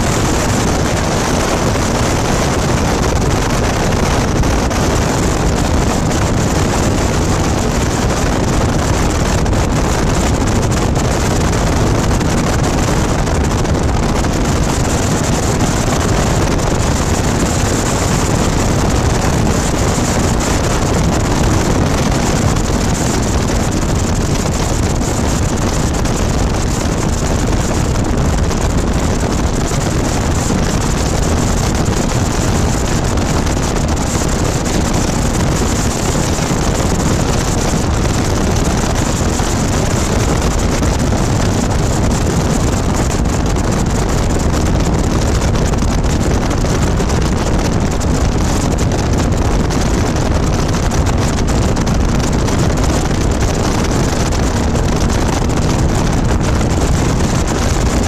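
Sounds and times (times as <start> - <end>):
aircraft engine and propeller: 0.0 - 58.0
wind noise on microphone: 0.0 - 58.0.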